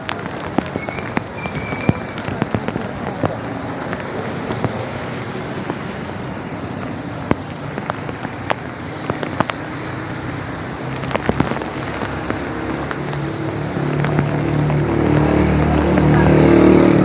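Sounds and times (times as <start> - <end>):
drops and drips tapping: 0.0 - 16.6
nearby traffic hum: 0.0 - 17.0
rain on a street: 0.0 - 17.0.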